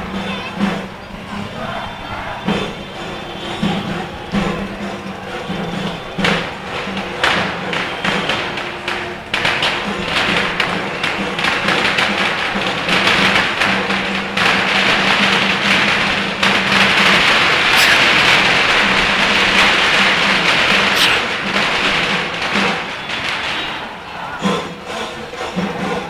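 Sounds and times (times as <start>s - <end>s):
drums in quick rhythm: 2.4s - 26.0s.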